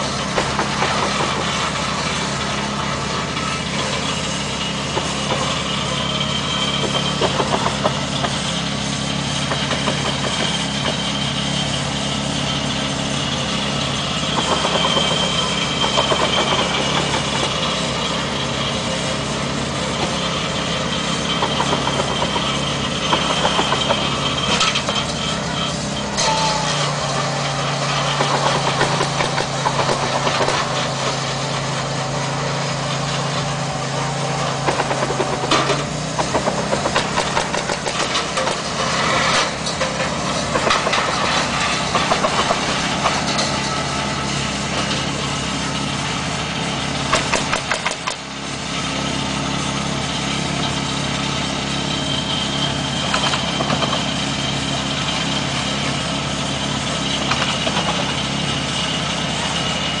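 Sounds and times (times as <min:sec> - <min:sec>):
engine running: 0:00.0 - 1:00.0.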